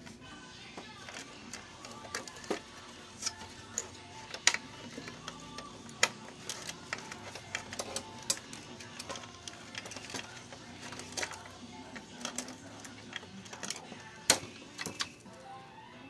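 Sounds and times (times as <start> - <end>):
printer parts clicking and clattering: 0.9 - 15.2.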